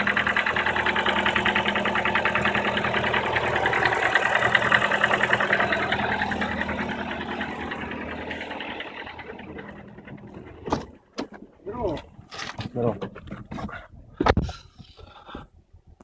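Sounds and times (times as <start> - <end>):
engine running with rhythmic knock: 0.0 - 16.0.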